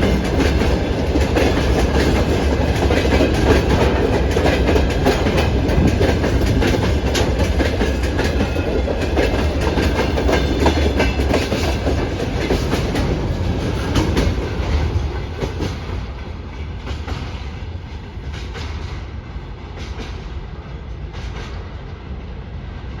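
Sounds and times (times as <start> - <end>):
train low rumble: 0.0 - 23.0
train wheels clickety-clack: 0.0 - 23.0.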